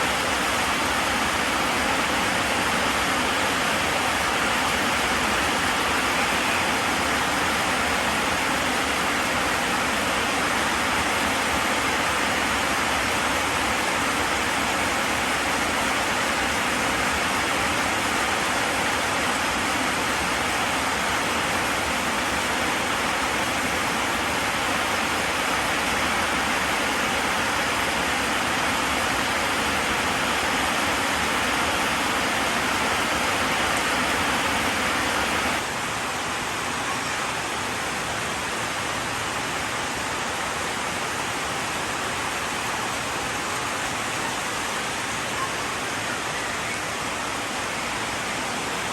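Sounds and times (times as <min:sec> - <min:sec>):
heavy falling water rushing: 0:00.0 - 0:48.9.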